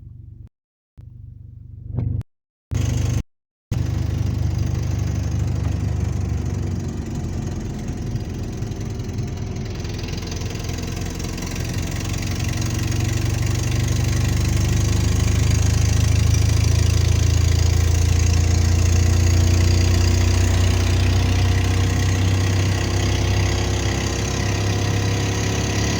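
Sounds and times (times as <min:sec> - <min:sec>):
vehicle engine idling: 0:02.8 - 0:25.9.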